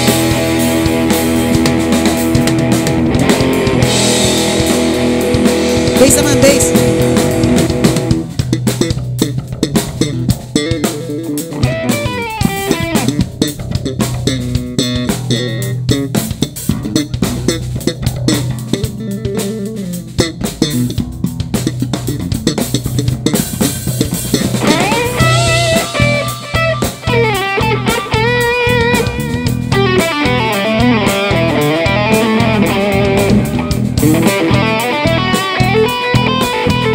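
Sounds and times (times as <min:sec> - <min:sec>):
drum kit: 0:00.0 - 0:36.9
electric bass line: 0:00.0 - 0:36.9
electric guitar melodic lines: 0:00.0 - 0:36.9.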